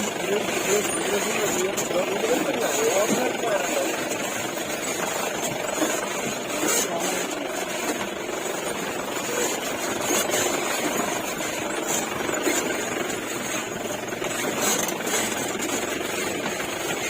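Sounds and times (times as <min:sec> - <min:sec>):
jeep engine running: 0:00.0 - 0:17.0
rough ride noise: 0:00.0 - 0:17.0.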